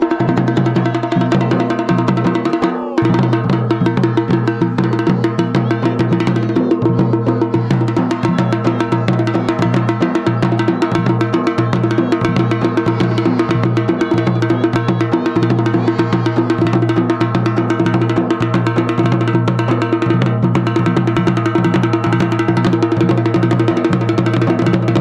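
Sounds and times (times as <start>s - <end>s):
drums in fast rhythm: 0.0s - 25.0s.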